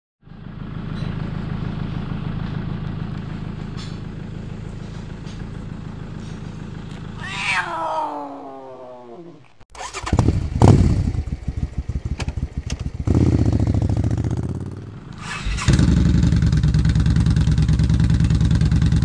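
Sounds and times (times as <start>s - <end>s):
motorcycle engines idling: 0.2s - 8.6s, 9.8s - 19.0s.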